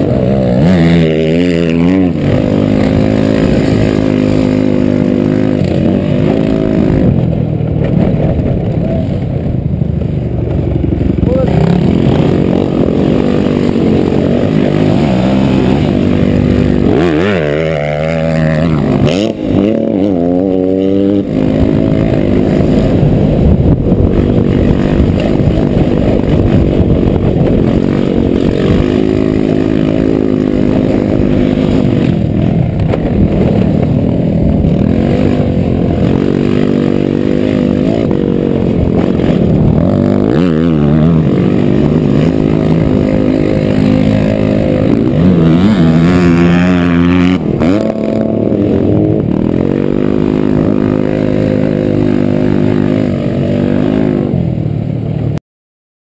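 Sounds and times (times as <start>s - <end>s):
scooter engine running hard: 0.0s - 55.4s.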